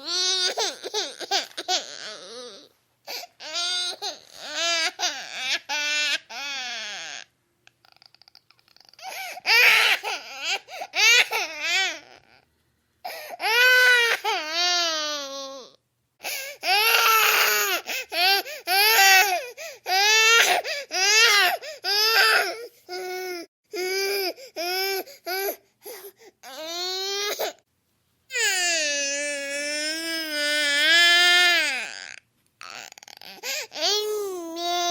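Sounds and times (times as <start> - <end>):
baby crying: 0.0 - 12.4, 13.1 - 27.6, 28.3 - 34.9.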